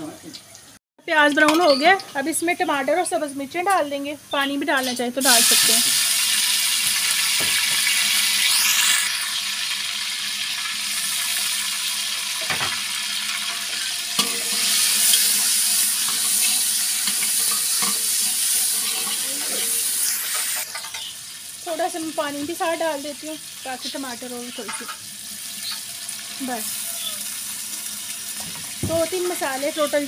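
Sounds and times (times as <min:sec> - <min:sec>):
vegetables sizzling in hot oil: 0:00.1 - 0:30.0.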